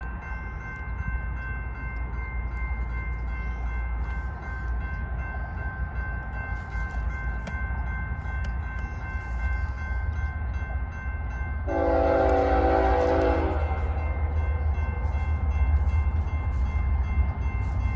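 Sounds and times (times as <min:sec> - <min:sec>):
train running rumble: 0:00.0 - 0:17.9.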